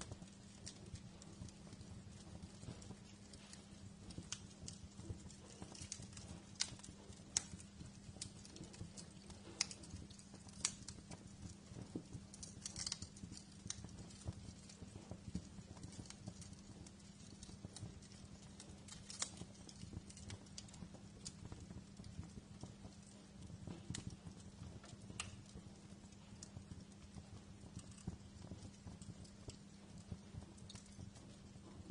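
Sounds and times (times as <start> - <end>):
steady low hum: 0.0 - 31.9
wood fire crackling and popping: 0.0 - 31.9.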